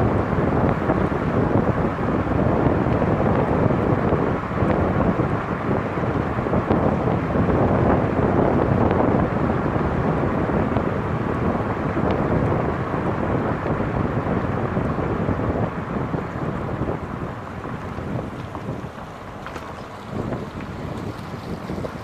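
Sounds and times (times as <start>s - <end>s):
road noise: 0.0s - 22.0s
wind buffeting microphone: 0.0s - 22.0s.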